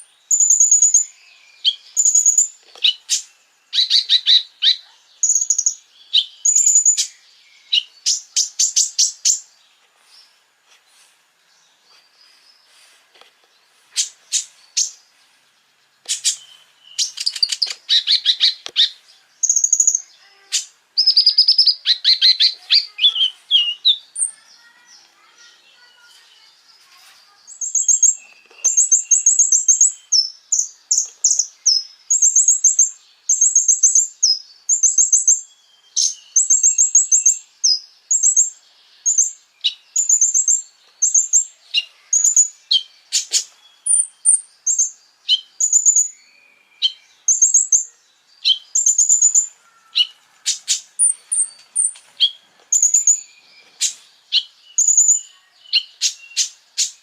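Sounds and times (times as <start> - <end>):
bird chirping and trilling: 0.0 - 10.4, 13.7 - 57.0.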